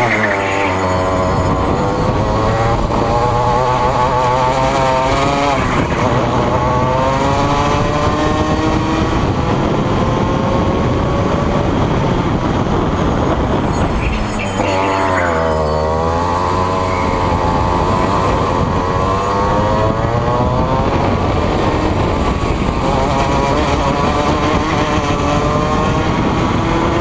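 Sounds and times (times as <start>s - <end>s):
kart engine revving: 0.0s - 27.0s.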